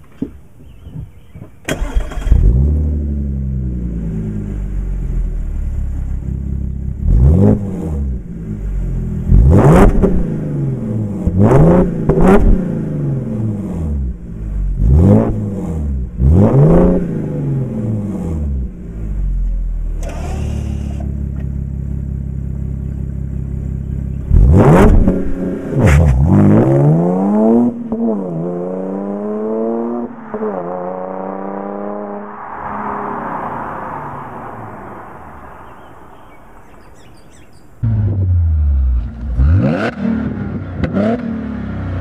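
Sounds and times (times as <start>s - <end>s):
car accelerating away with upshifts: 0.7s - 42.0s
car engine revving: 1.2s - 37.0s, 37.8s - 42.0s.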